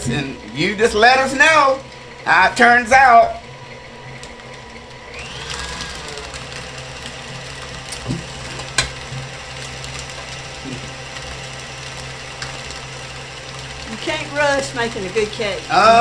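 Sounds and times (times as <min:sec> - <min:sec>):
stand mixer motor humming: 0:00.0 - 0:16.0.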